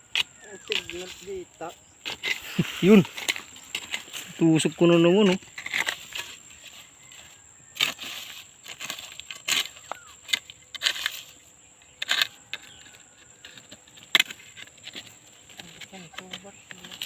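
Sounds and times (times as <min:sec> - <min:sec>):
hand tool scraping into soil: 0:00.0 - 0:17.0.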